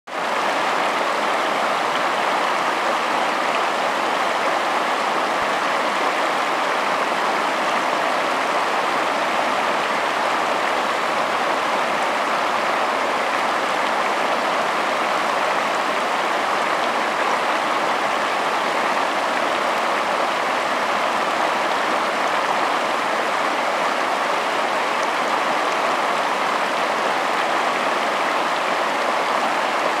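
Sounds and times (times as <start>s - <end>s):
river water rushing over rocks: 0.1s - 30.0s.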